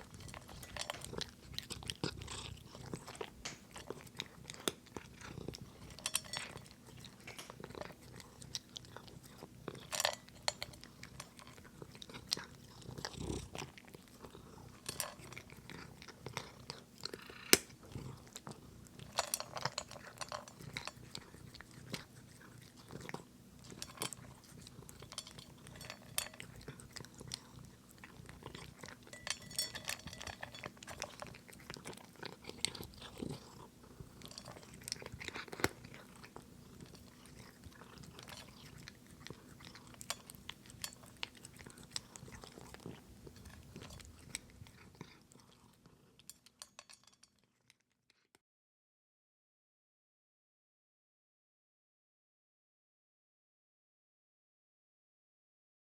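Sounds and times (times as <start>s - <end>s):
cat purring: 0.0s - 46.2s
cat crunching dry kibble: 0.0s - 48.2s.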